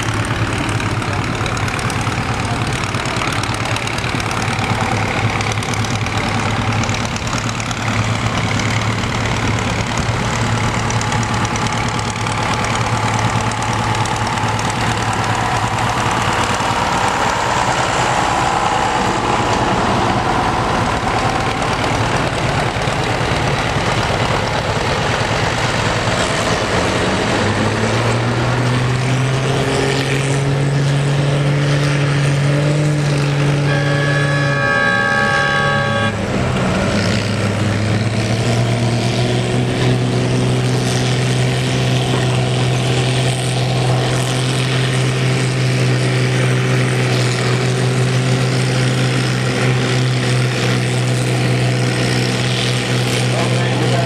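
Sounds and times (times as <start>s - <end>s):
tractor engines running: 0.0s - 54.0s.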